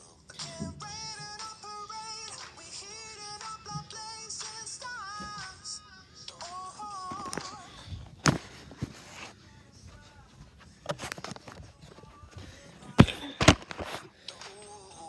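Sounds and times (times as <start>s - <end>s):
faint dance music: 0.0s - 15.0s.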